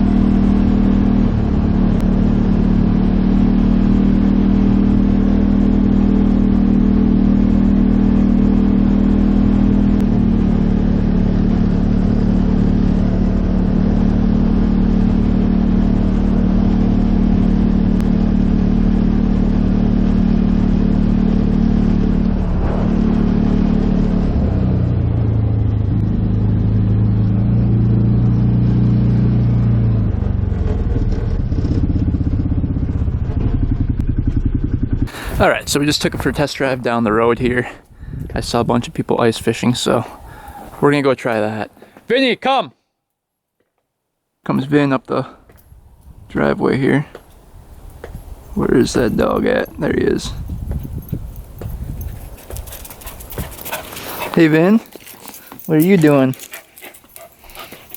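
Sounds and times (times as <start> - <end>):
utility vehicle engine running: 0.0 - 38.8, 48.1 - 57.9.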